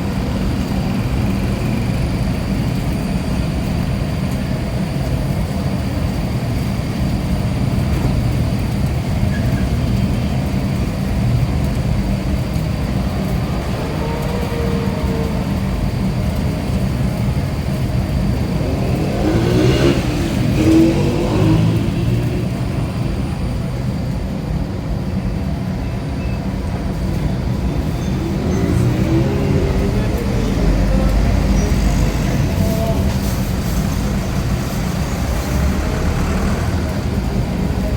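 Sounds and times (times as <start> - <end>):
vehicle engine running: 0.0 - 37.9.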